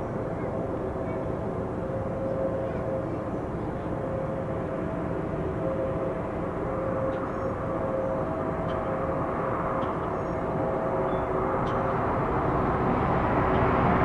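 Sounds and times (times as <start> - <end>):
faint engine whine: 0.0 - 14.0.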